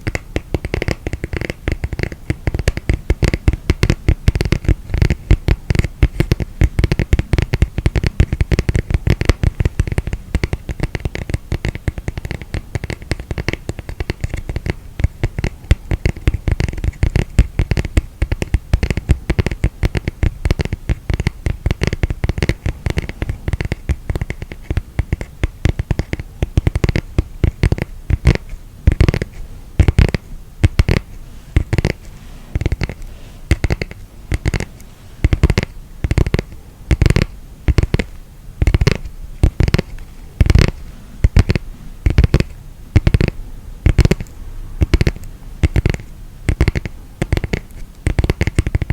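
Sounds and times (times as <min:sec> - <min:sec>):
fingers scratching woven mat: 0:00.0 - 0:48.9.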